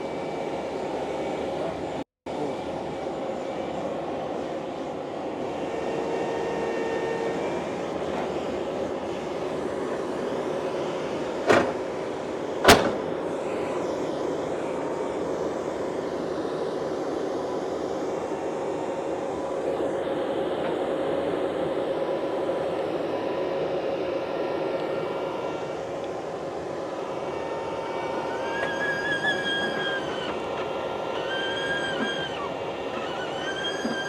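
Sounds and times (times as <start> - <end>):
heavy equipment engine running: 0.9 - 34.0.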